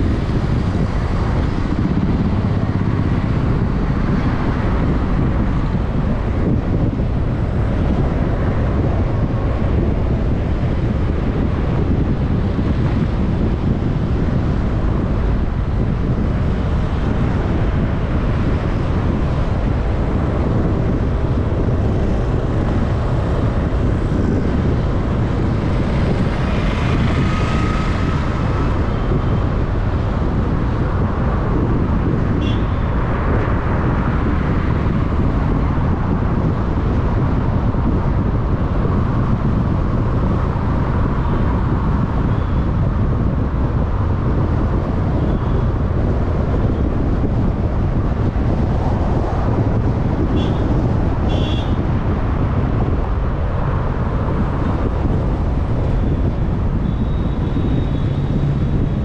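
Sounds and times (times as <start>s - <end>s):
car tyre and wind rumble: 0.0s - 59.0s.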